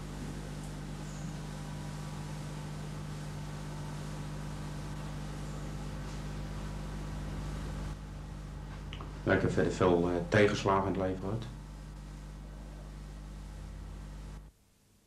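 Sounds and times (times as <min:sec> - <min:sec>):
low hum: 0:00.0 - 0:14.5.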